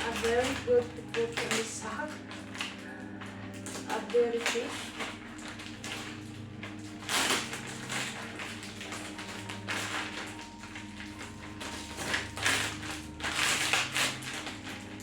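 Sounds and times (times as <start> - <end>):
packaging and fabric rustling: 0.0 - 15.0
soft background music: 0.0 - 15.0.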